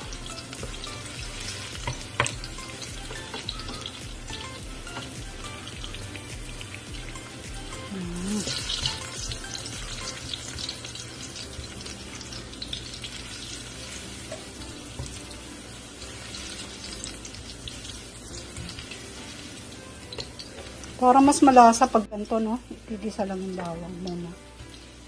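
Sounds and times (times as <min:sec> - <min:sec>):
garlic sizzling in hot oil: 0:00.0 - 0:25.0.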